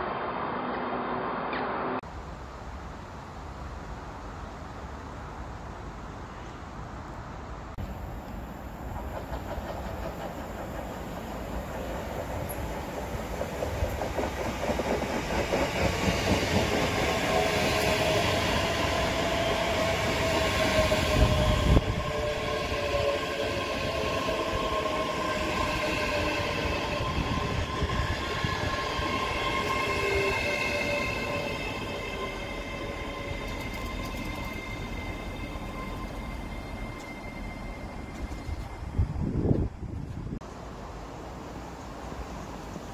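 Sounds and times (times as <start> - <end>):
train wheels rumbling on rails: 7.8 - 42.9.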